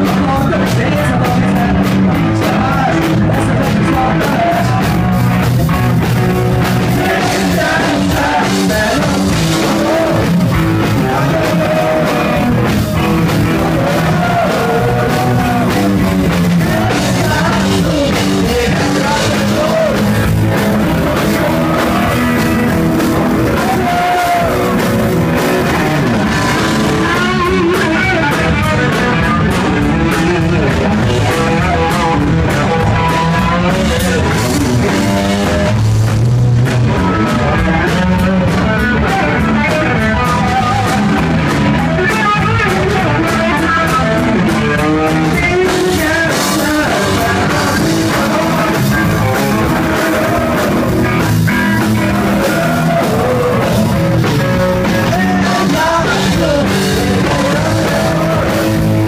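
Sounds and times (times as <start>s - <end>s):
drum kit: 0.0s - 59.0s
electric guitar: 0.0s - 59.0s
man singing into a microphone: 0.0s - 59.0s.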